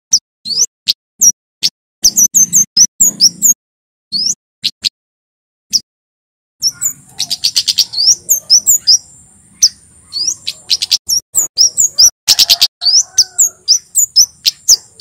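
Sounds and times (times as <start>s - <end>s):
bird singing sharp high chips: 0.1s - 1.4s, 2.0s - 4.9s, 6.6s - 15.0s.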